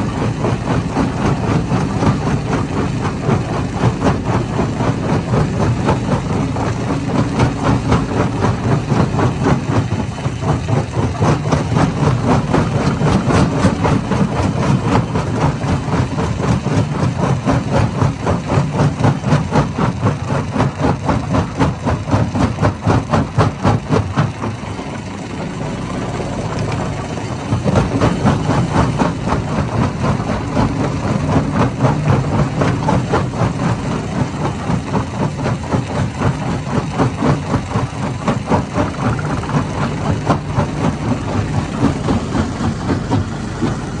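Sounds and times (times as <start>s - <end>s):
stone crusher engine drone: 0.0s - 44.0s.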